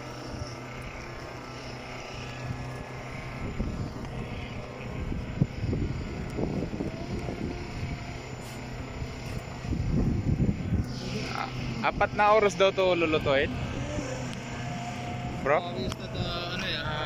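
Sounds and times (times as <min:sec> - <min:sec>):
low rumbling: 0:00.0 - 0:17.0
steady mechanical hum: 0:00.0 - 0:17.0.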